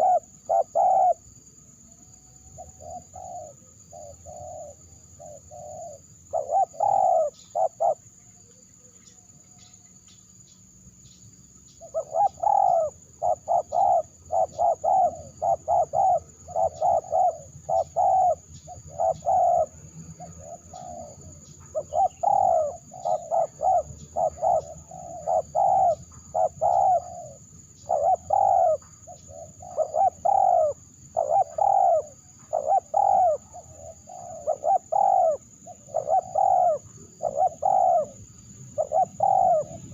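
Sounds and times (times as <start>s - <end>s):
dove cooing: 0.0s - 1.4s, 2.4s - 9.0s, 11.8s - 39.9s.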